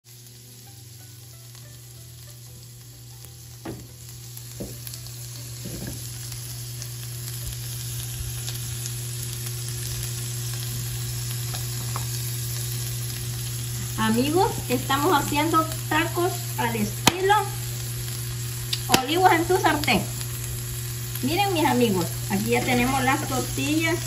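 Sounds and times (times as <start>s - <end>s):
food sizzling on a hot griddle: 0.1s - 24.0s
low steady hum: 0.1s - 24.0s.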